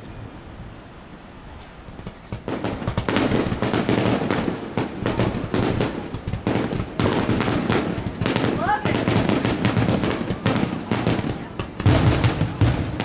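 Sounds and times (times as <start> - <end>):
fireworks bangs and crackles: 1.6 - 13.0.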